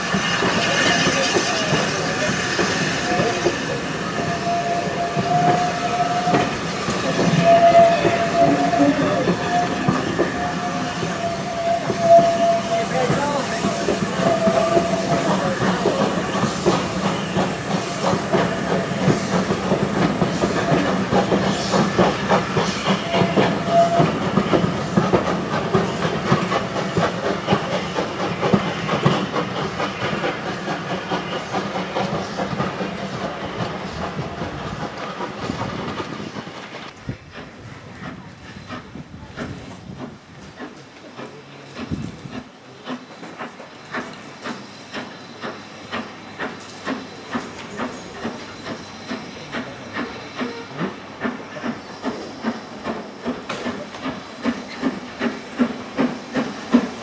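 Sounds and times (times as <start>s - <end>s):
hissing steam: 0.0s - 57.0s
steam locomotive exhaust: 0.0s - 57.0s
wheels clattering on rails: 4.4s - 57.0s.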